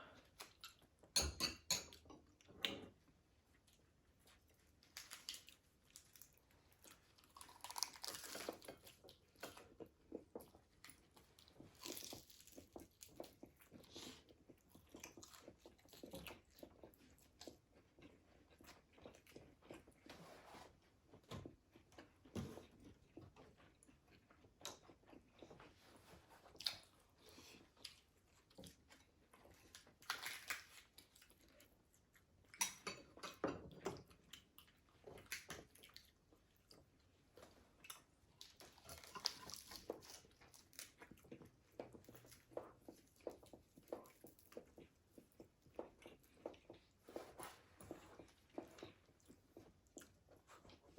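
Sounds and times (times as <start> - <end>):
chewing crispy fried food: 0.1 - 1.2, 2.0 - 20.2, 20.8 - 50.9.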